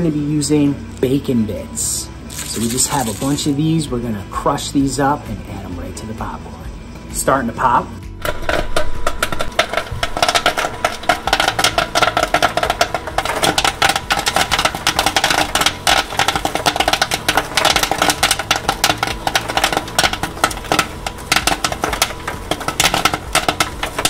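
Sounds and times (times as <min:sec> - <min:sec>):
popcorn popping in hot oil: 0:00.0 - 0:06.6, 0:07.3 - 0:24.0.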